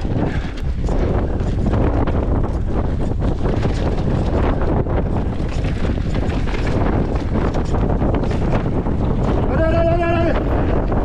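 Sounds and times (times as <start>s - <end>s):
bike rattles and knocks: 0.0s - 11.0s
wind buffeting microphone: 0.0s - 11.0s.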